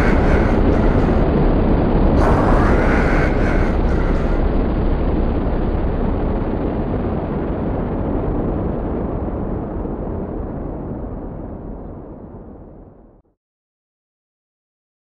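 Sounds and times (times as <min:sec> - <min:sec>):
deep noisy rumble: 0:00.0 - 0:13.2.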